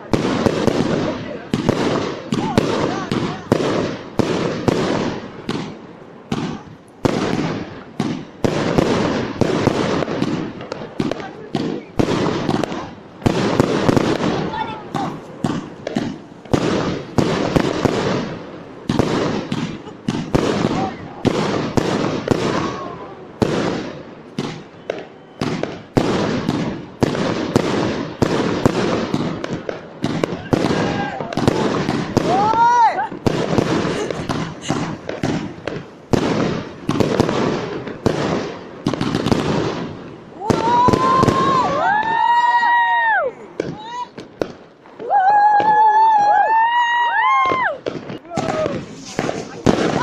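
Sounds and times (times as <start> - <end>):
fireworks bangs with rumbling echo: 0.0 - 50.0.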